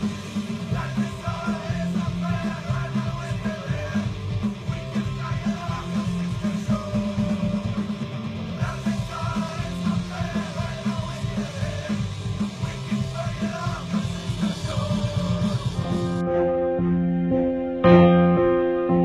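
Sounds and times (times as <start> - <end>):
driving bass line: 0.0 - 19.0
punk rock music: 0.0 - 19.0.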